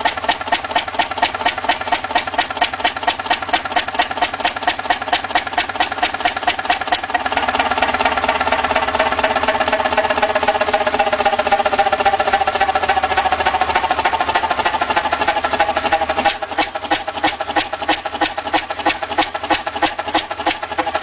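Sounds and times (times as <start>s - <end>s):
old engine rapid beat: 0.0s - 21.0s.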